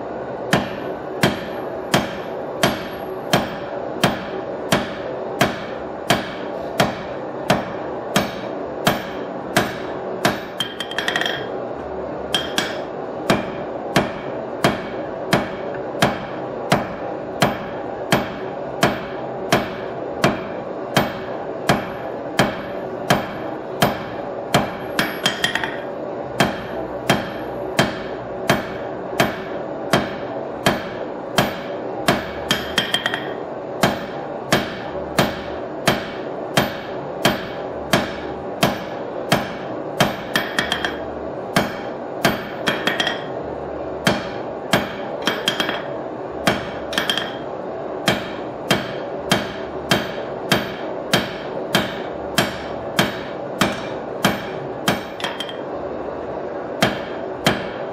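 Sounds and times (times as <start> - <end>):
hammer striking steel on anvil: 0.5 - 11.6, 12.3 - 43.4, 44.0 - 55.7, 56.8 - 57.8.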